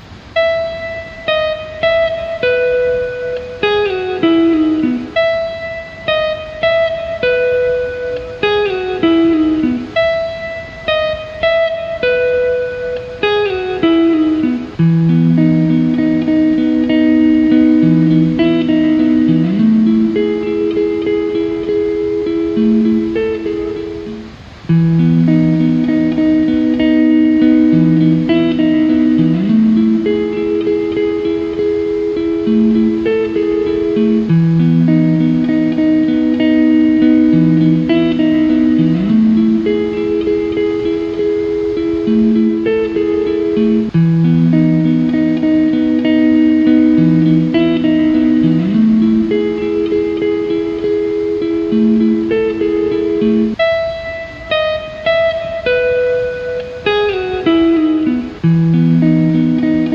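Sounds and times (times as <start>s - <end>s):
plucked guitar music: 0.0s - 59.9s.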